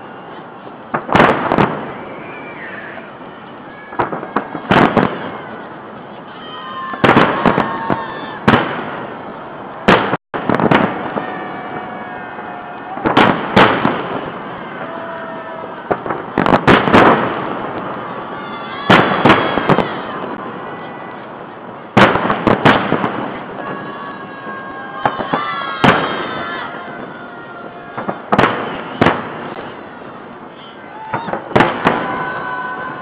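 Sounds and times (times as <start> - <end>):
fireworks bursting in sharp bangs: 0.0 - 33.0
fireworks crackling: 0.0 - 33.0.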